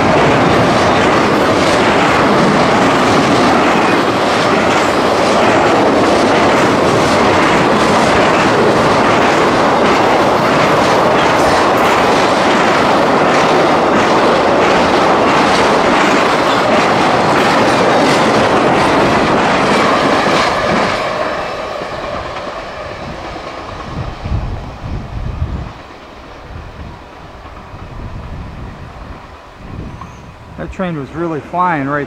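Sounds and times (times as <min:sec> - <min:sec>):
freight train wheels clattering: 0:00.0 - 0:32.0.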